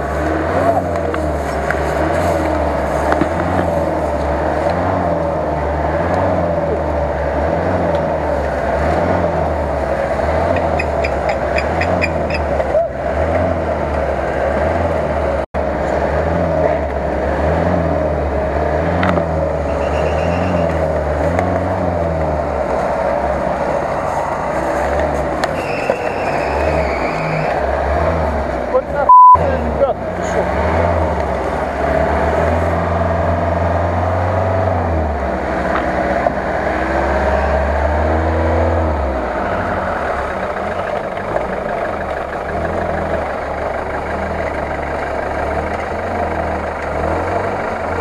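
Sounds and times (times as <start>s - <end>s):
off-road vehicle engine revving: 0.0s - 48.0s.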